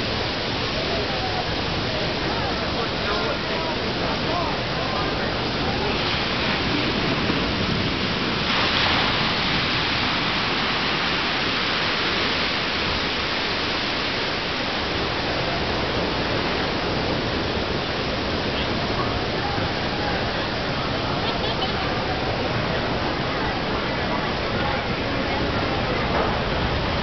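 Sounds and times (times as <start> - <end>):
ocean surf on sandy beach: 0.0 - 27.0.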